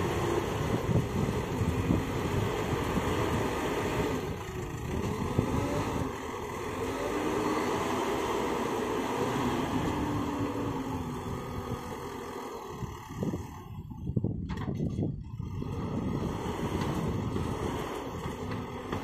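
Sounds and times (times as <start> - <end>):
diesel engine revving under load: 0.0 - 14.3, 14.9 - 19.0.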